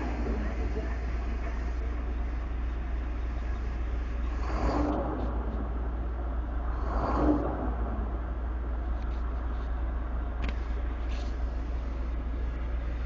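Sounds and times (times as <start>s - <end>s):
diesel truck engine idling and revving: 0.0s - 13.0s.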